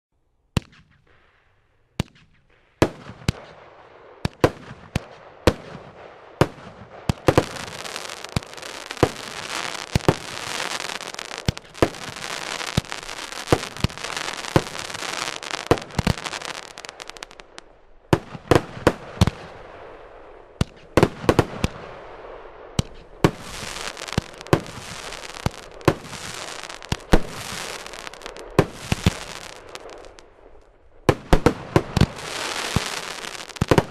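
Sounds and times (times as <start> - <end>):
firework shots and loud reports: 0.6 - 33.9
firework crackle: 4.2 - 33.9.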